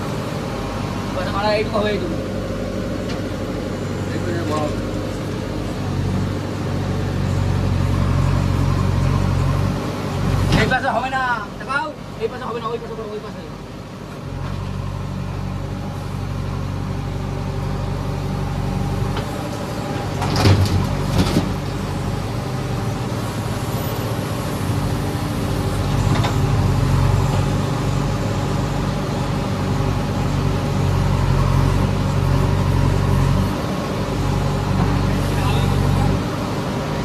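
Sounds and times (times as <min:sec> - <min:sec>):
diesel engine under load: 0:00.0 - 0:37.0.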